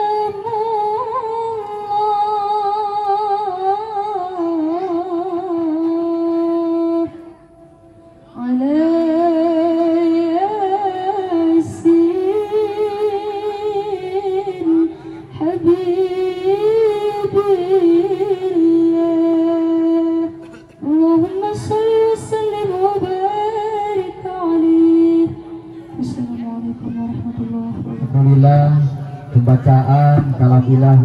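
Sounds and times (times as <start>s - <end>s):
woman singing slow melody: 0.0s - 7.4s, 8.2s - 28.0s.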